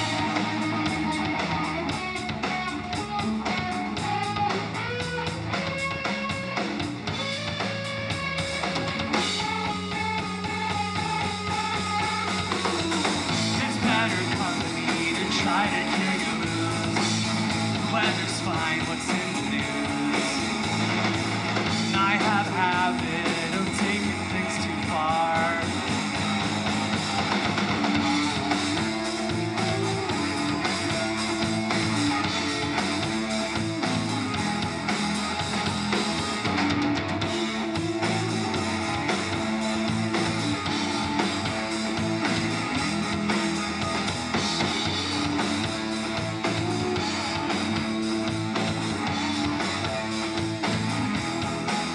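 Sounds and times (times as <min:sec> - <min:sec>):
bass guitar: 0:00.0 - 0:51.9
drums: 0:00.0 - 0:51.9
electric guitar: 0:00.0 - 0:51.9.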